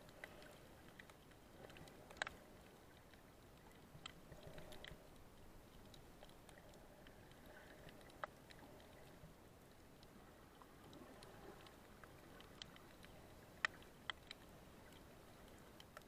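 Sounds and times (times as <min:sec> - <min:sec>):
underwater crackling: 0:00.0 - 0:16.0.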